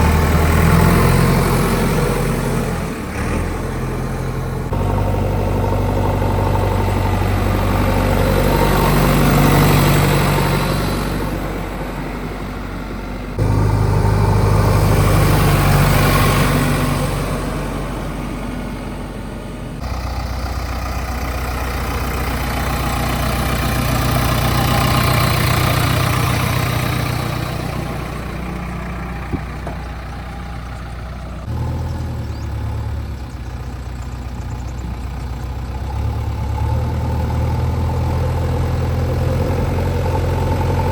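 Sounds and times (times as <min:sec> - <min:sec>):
diesel backhoe engine running: 0:00.0 - 0:40.9.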